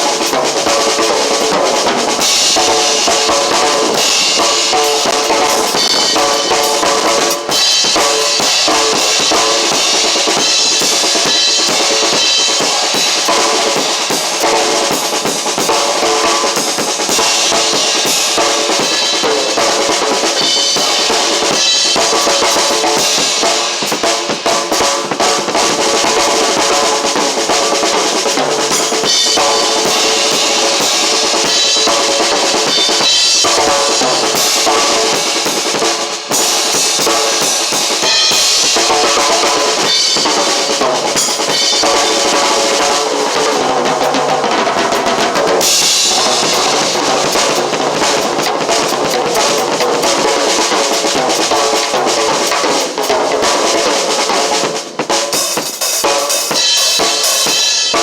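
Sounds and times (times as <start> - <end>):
drum kit playing: 0.0 - 58.0.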